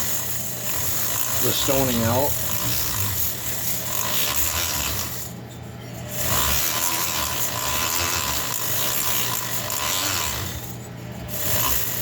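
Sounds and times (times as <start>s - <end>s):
rotary tool sanding metal: 0.0s - 12.0s.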